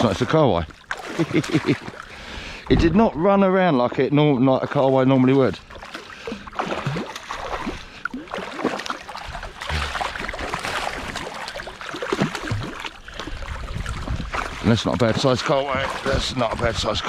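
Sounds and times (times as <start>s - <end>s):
water lapping against kayak hull: 0.0s - 3.6s, 4.3s - 17.0s.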